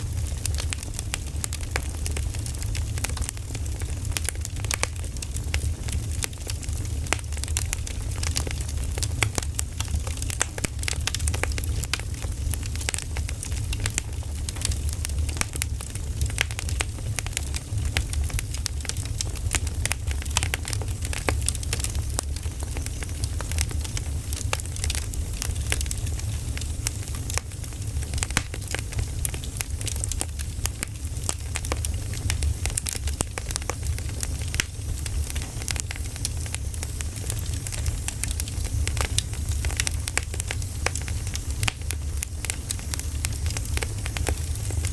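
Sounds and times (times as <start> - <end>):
campfire crackling and popping: 0.0 - 44.9
low fire rumble: 0.0 - 44.9.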